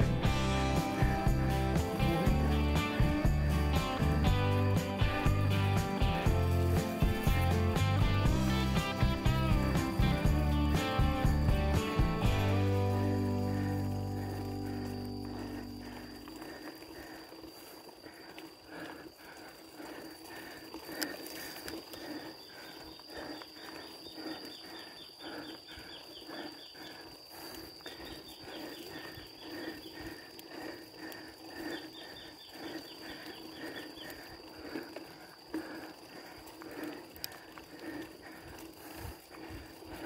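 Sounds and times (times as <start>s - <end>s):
bicycle freewheel ticking: 0.0s - 40.0s
soft rhythmic pulsing: 0.0s - 40.0s.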